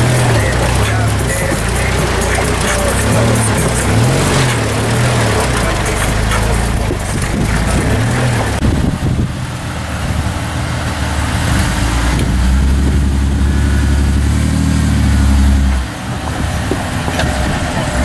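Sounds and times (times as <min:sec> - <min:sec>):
pickup truck engine idling: 0:00.0 - 0:18.0.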